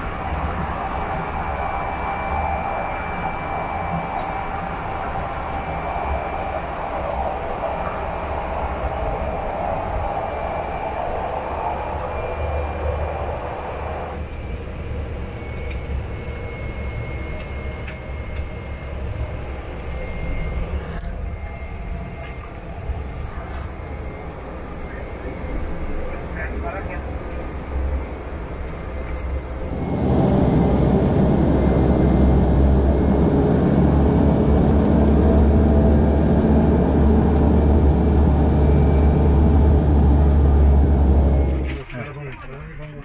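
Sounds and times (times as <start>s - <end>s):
turboprop engine drone: 0.0s - 43.0s.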